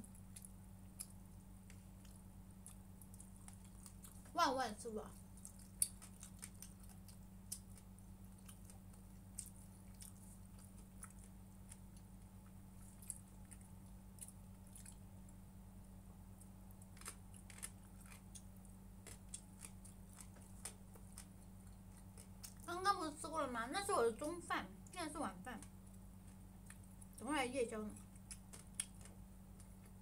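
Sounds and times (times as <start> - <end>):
quiet chewing and crunching: 0.0 - 23.2, 23.8 - 30.0
low electrical hum: 0.0 - 30.0.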